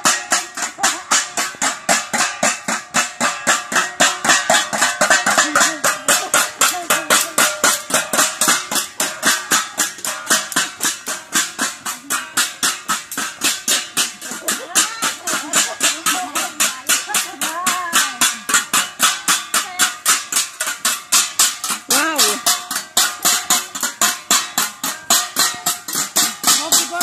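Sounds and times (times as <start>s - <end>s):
people's voices: 0.0s - 27.0s
plates and pan lids beaten: 0.0s - 27.0s.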